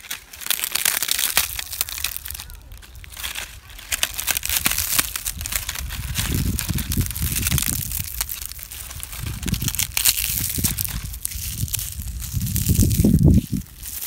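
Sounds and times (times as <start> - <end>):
dry leaves crumpled: 0.0 - 14.0.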